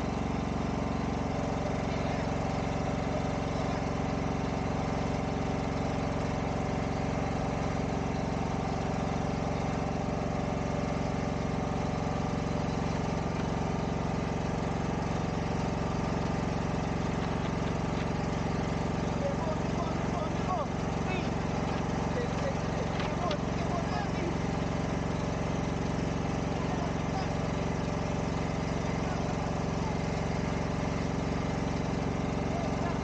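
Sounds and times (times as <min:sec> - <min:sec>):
boat engine running steadily: 0:00.0 - 0:33.0.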